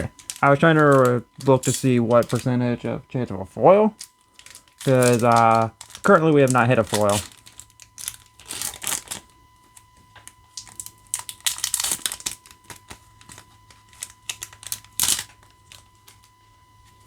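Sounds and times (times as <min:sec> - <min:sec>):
plastic wrapper crinkling and tearing: 0:00.0 - 0:02.6, 0:03.9 - 0:16.3.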